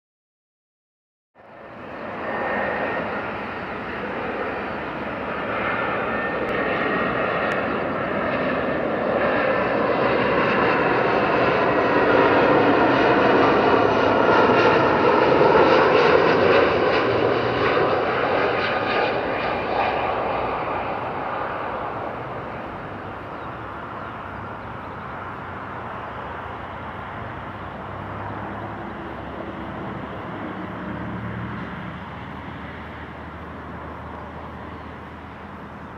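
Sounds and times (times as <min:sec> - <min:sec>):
jet engines whining: 0:01.4 - 0:35.9.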